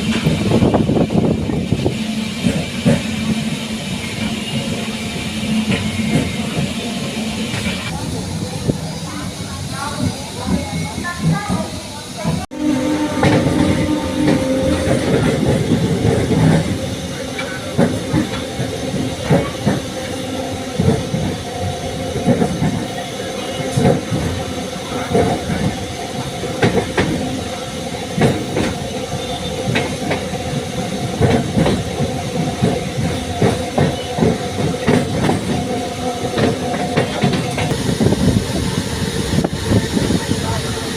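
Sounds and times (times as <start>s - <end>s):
electric train humming: 0.0s - 40.9s.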